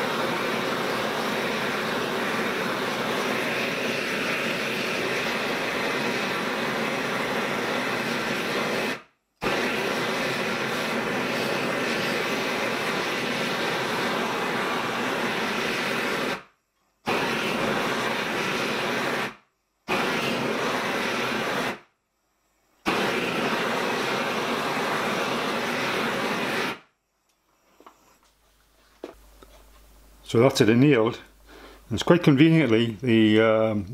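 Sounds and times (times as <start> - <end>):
gas torch flame rushing: 0.0 - 21.9, 22.8 - 26.9, 27.8 - 33.6.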